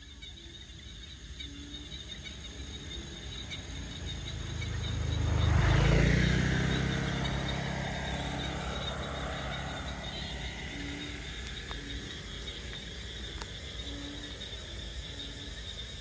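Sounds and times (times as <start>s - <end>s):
motorbike passing: 2.2s - 15.8s.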